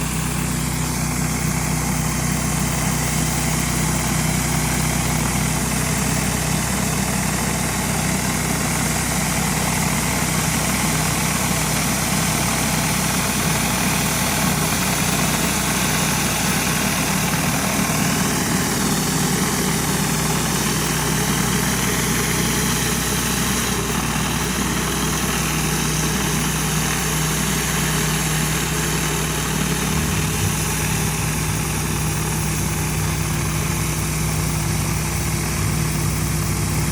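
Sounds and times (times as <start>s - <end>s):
high-pressure water spraying: 0.0s - 7.8s, 10.8s - 36.9s
pressure washer engine running: 0.0s - 36.9s.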